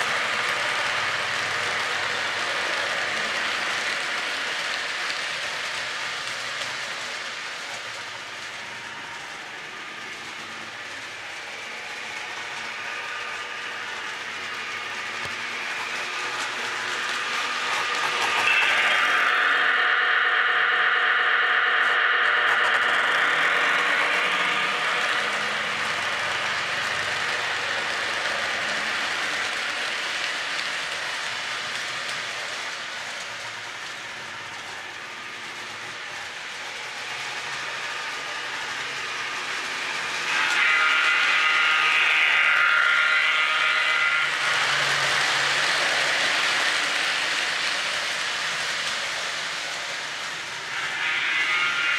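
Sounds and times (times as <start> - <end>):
model train wheels clattering: 0.0 - 19.6, 22.5 - 51.9.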